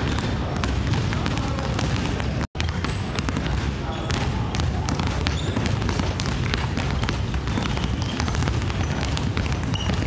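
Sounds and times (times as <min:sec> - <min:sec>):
basketballs bouncing on wooden floor: 0:00.0 - 0:10.0.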